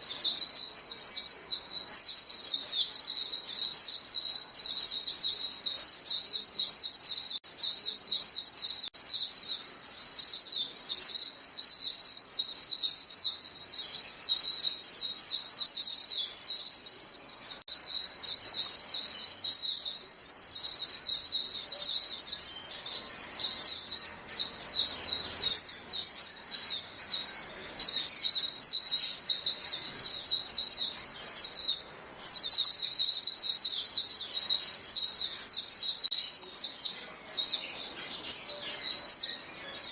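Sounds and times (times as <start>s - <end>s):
birds chirping rapidly: 0.0s - 39.9s.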